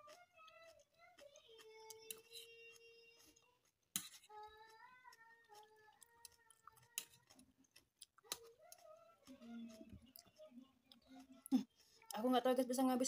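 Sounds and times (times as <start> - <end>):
person chewing noodles: 0.0 - 12.2.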